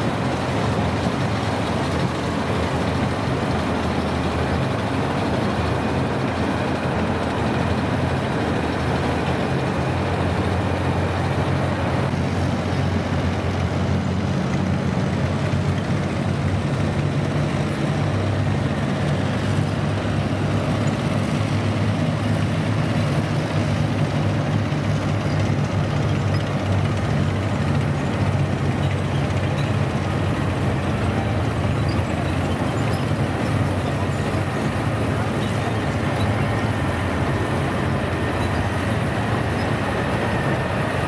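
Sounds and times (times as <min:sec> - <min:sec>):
diesel engines droning: 0:00.0 - 0:41.0.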